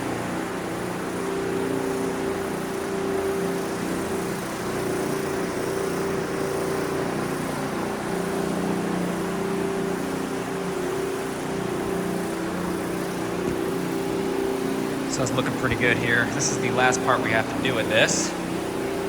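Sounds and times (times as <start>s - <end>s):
floor machine motor hum: 0.0s - 19.0s.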